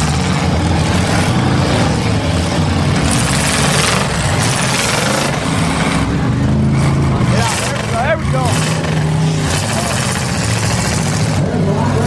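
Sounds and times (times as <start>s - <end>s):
car engines running hard: 0.0s - 12.0s.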